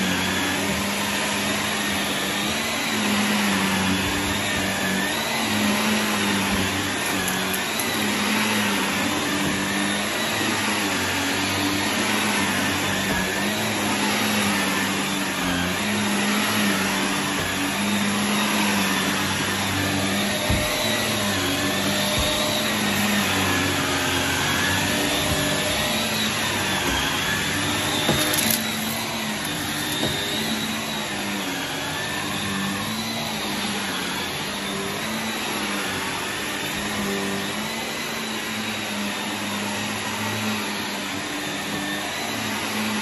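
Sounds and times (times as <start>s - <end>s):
vacuum cleaner running on carpet: 0.0s - 43.0s.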